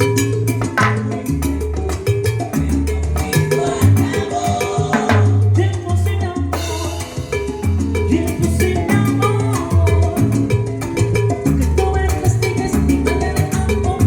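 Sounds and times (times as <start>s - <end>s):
salsa music with horns: 0.0s - 14.0s.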